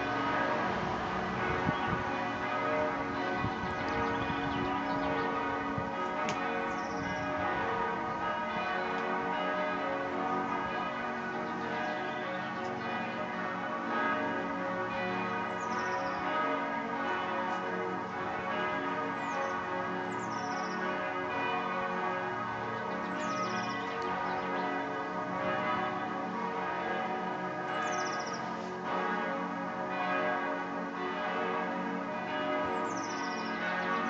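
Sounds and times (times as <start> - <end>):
church bells pealing: 0.0 - 34.0.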